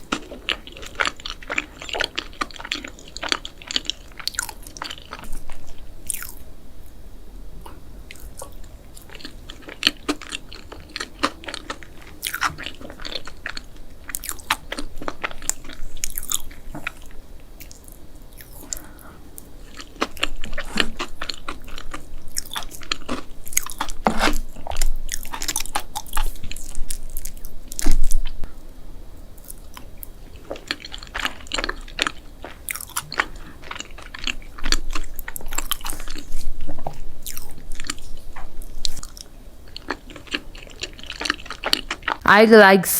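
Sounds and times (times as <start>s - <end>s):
person chewing crunchy food: 0.0s - 6.4s, 7.6s - 28.4s, 29.4s - 42.2s.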